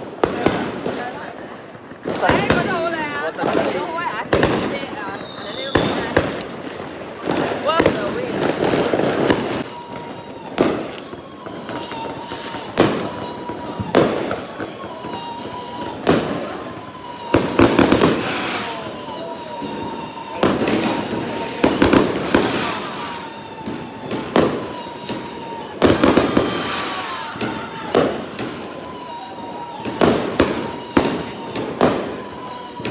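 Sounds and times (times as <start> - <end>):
fireworks bangs: 0.0 - 32.9
fireworks crackling: 0.0 - 32.9.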